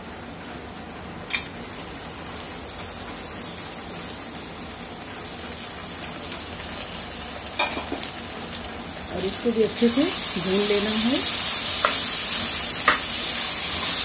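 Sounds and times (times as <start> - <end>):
food sizzling in hot oil: 1.3 - 14.0.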